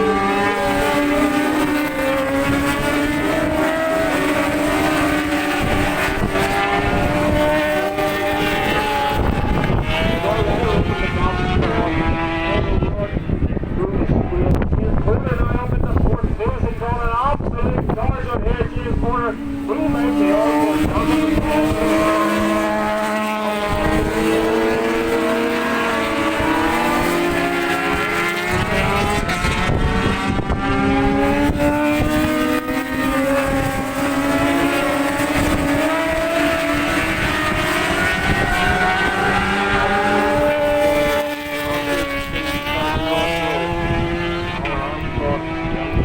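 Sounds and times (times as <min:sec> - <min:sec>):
racing motorcycle engines revving: 0:00.0 - 0:46.0.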